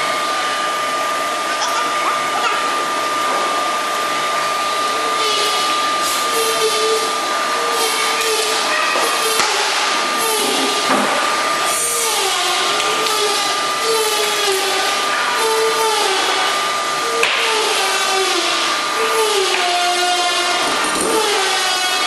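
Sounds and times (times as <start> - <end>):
blower-like machinery whirr: 0.0 - 22.0
constant high whine: 0.0 - 22.0.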